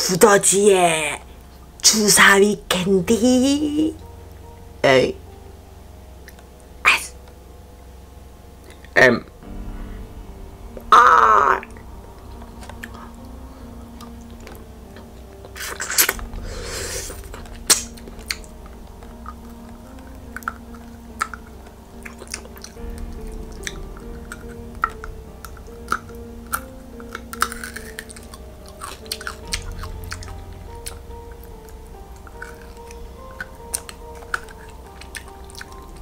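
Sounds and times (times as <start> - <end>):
soft background music: 0.0 - 36.0.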